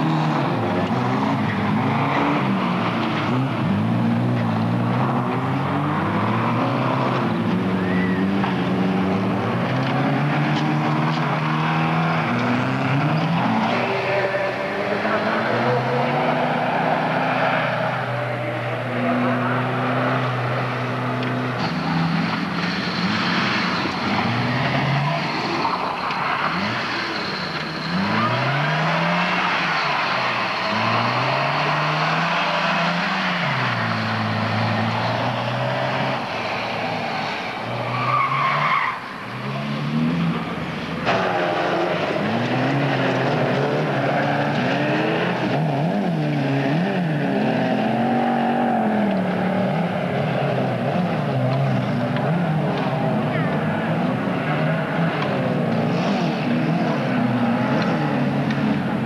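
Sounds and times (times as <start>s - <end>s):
race car engine revving: 0.0s - 59.0s
several car engines running: 0.0s - 59.0s.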